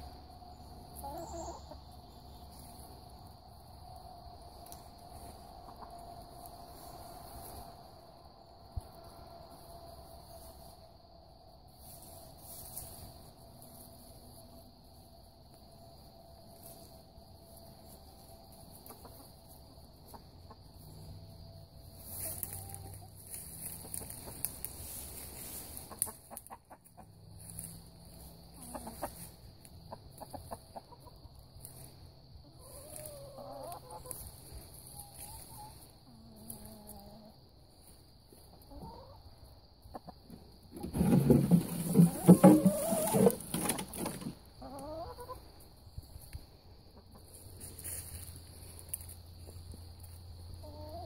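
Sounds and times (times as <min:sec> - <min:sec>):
chickens clucking: 0:00.0 - 0:51.0
crickets chirping: 0:00.0 - 0:51.0.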